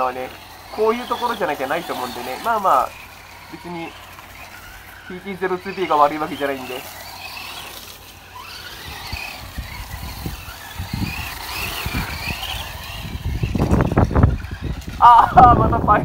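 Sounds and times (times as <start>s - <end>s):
electric motor whining: 0.0s - 16.0s
tyres crunching in gravel: 0.0s - 16.0s.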